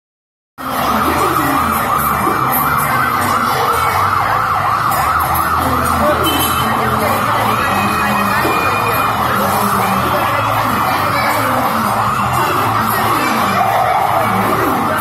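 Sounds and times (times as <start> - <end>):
toy fire truck siren yelping: 0.6 - 15.0.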